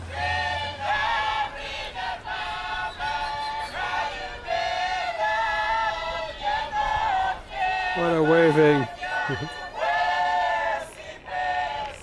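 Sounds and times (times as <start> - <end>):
high voices singing in chorus: 0.0 - 12.0.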